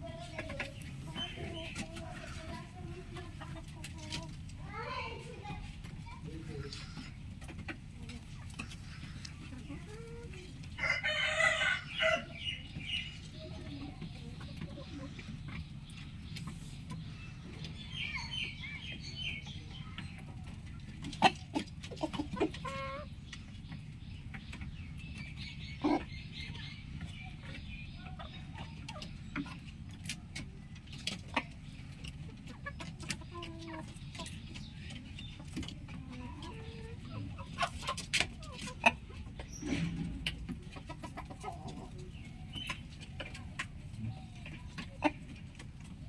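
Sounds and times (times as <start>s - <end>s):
rooster clucking: 0.0s - 4.5s, 6.2s - 23.2s, 25.8s - 46.0s
small birds chirping: 0.0s - 46.0s.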